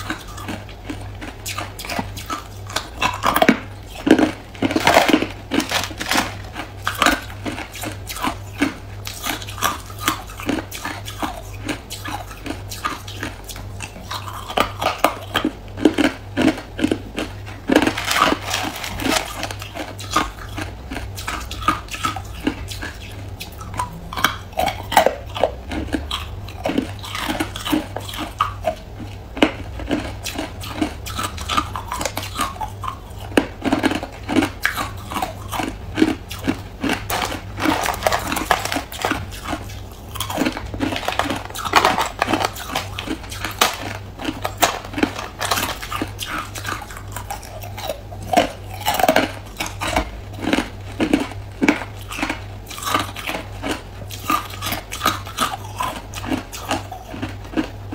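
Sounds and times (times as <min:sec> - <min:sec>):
ice being chewed: 0:00.0 - 0:57.9.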